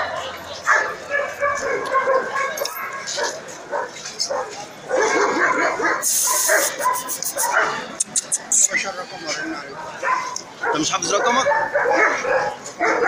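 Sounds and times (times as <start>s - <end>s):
dogs barking and yelping: 0.2s - 8.4s, 10.0s - 13.0s.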